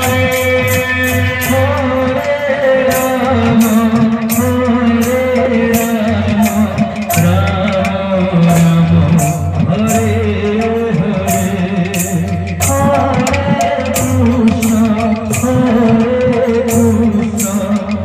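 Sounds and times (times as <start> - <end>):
folk singing over steady beat: 0.0 - 18.0
metallic percussion strikes: 0.0 - 18.0.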